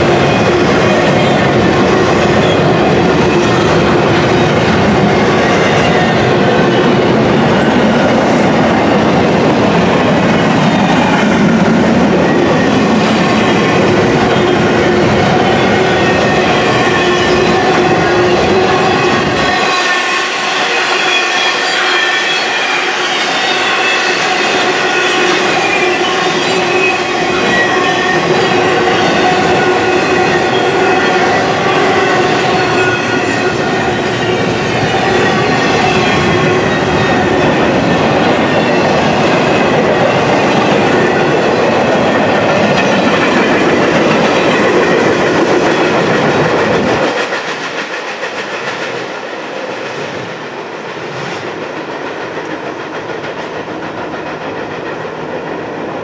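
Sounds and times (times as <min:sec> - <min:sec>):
freight cars rolling on rails: 0:00.0 - 0:56.0.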